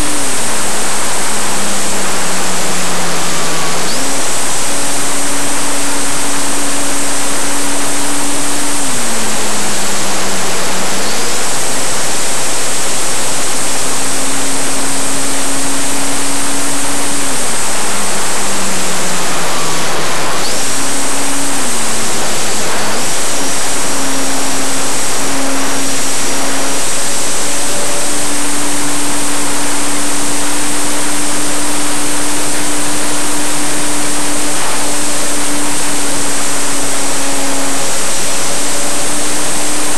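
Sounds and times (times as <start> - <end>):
high electric motor whine: 0.0 - 39.9.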